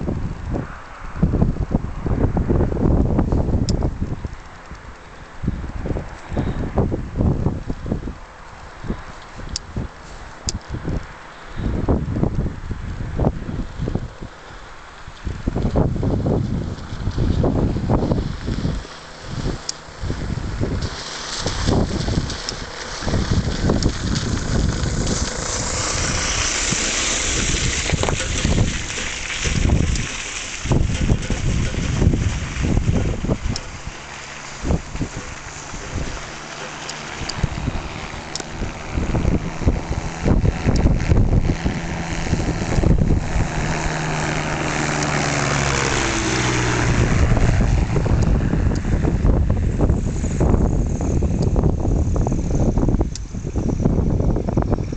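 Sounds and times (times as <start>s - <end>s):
ultralight aircraft engine drone: 0.0s - 54.9s
wind buffeting microphone: 0.0s - 54.9s.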